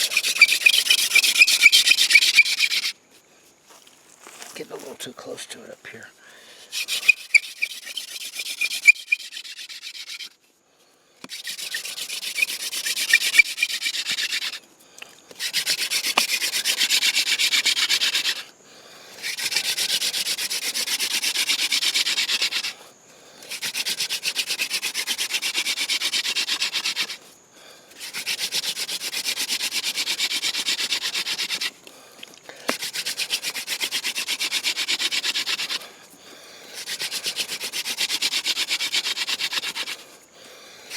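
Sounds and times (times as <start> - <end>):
hand drill rubbing hiss: 0.0 - 4.6, 6.0 - 10.5, 11.2 - 40.9.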